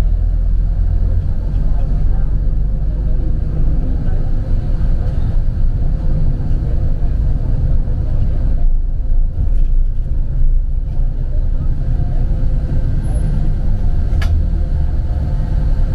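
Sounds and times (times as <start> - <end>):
bus engine and tyre noise: 0.0 - 15.9.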